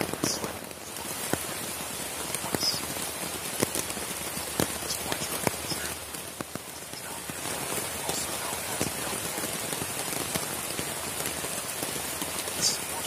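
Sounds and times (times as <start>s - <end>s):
rain on a tarp: 0.0s - 13.0s.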